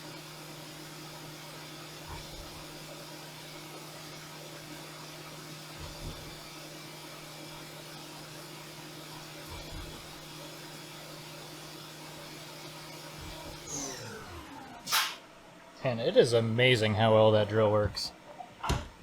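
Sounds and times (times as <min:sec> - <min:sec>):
milling machine humming: 0:00.0 - 0:18.2.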